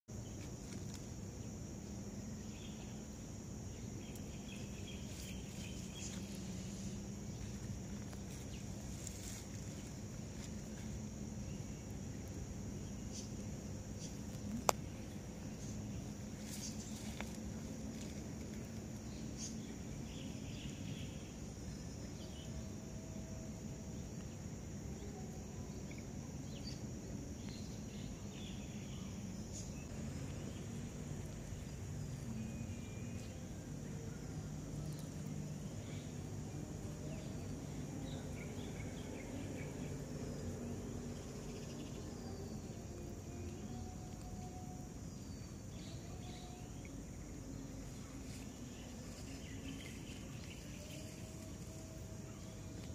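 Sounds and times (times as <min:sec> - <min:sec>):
insects chirring: 0:00.1 - 0:52.9
low hum: 0:00.1 - 0:52.9.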